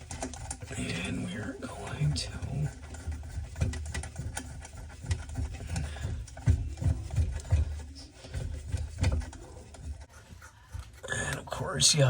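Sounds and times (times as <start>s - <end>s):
tool knocking and clicking on fittings: 0.0s - 11.6s.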